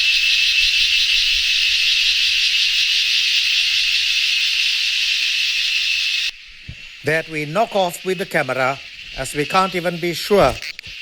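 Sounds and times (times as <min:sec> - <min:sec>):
cicada buzzing: 0:00.0 - 0:11.0.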